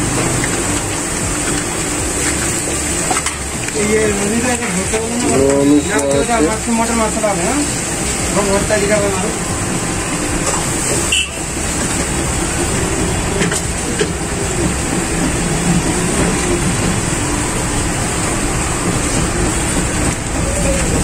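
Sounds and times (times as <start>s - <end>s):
rumbling din of street food stall: 0.0s - 21.0s.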